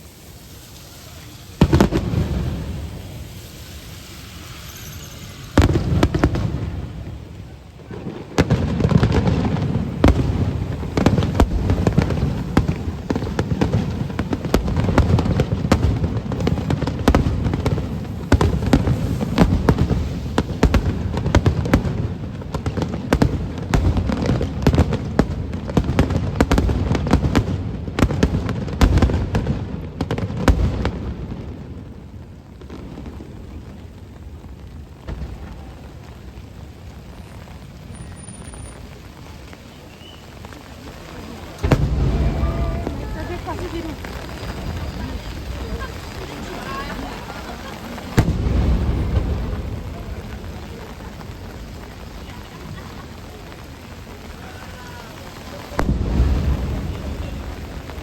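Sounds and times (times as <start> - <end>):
fireworks bangs and booms: 0.0 - 58.0
steady hiss: 0.0 - 58.0.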